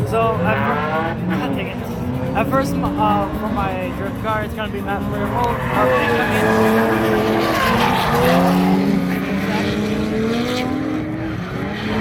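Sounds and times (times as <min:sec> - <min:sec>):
drift car engines revving: 0:00.0 - 0:12.0.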